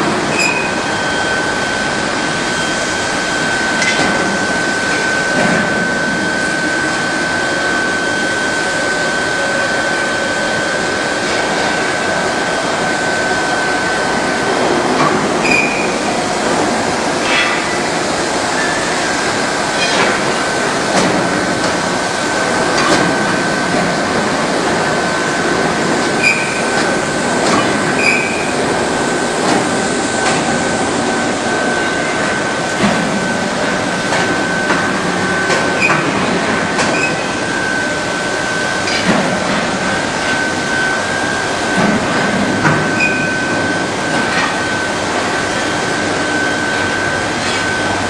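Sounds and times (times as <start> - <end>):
furnace high whine: 0.0 - 48.0
rumbling industrial noise: 0.0 - 48.0.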